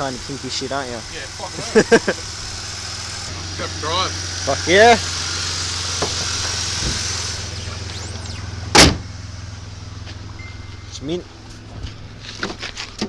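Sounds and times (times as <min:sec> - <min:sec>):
car door shutting: 0:00.0 - 0:13.0
car engine idling: 0:00.0 - 0:13.0.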